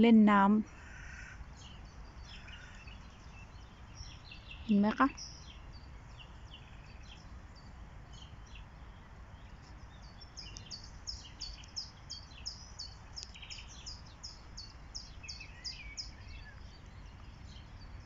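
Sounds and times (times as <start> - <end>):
small bird chirping: 0.3 - 18.0.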